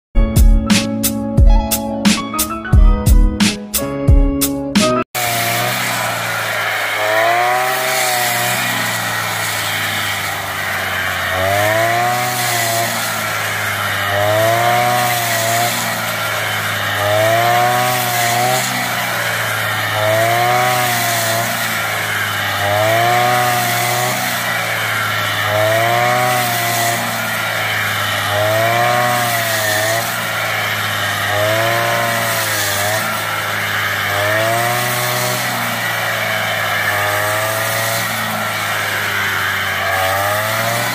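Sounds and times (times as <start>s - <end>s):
brush cutter engine cutting: 5.1s - 40.9s.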